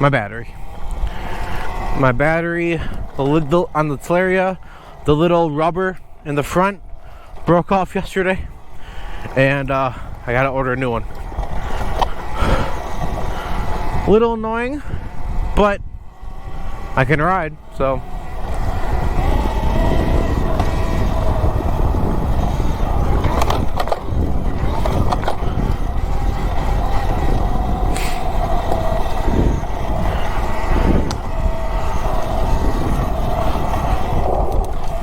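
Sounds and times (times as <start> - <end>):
electric motor whine: 0.0 - 35.0
tyre and wind rumble: 0.0 - 35.0.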